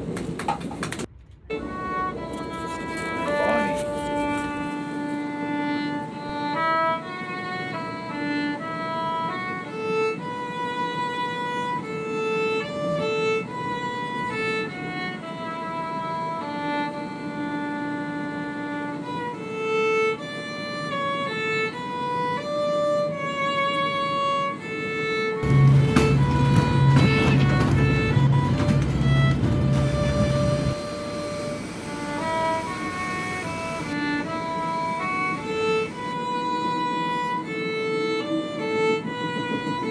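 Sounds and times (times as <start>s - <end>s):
violin melody: 1.3s - 39.9s.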